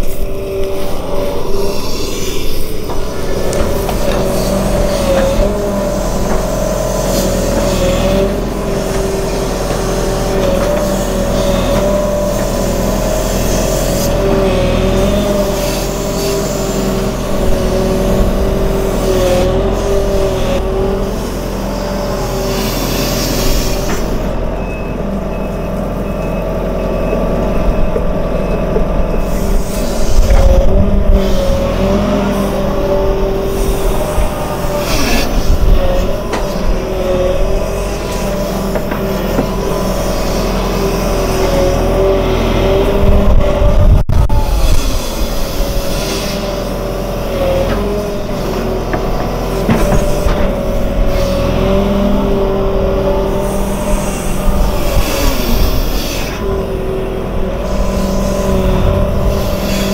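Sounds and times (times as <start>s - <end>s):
engine whine: 0.0s - 59.9s
excavator diesel engine: 0.0s - 59.9s.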